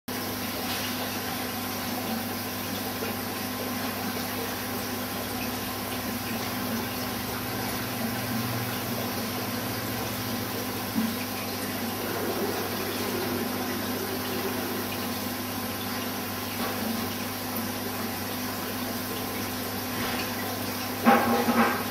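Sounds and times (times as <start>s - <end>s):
aquarium filter running water: 0.1s - 21.9s.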